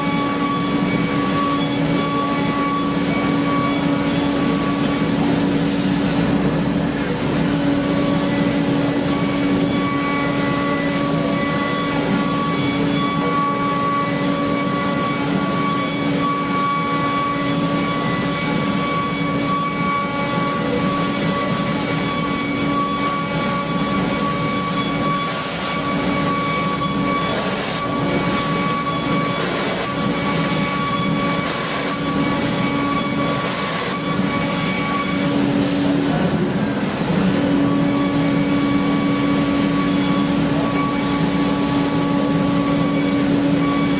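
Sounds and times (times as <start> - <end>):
high steady whine: 0.0 - 43.9
machining equipment hum: 0.0 - 43.9.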